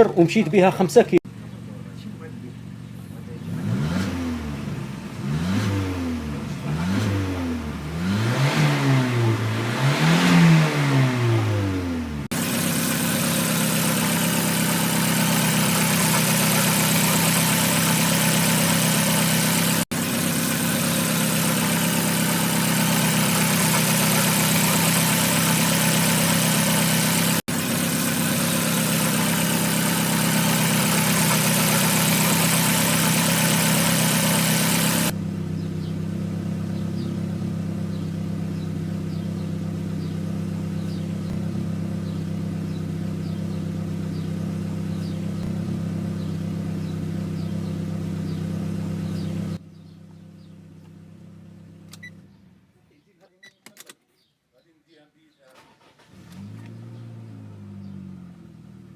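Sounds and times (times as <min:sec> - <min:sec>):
car engine idling: 0:00.0 - 0:52.8, 0:55.6 - 0:58.9.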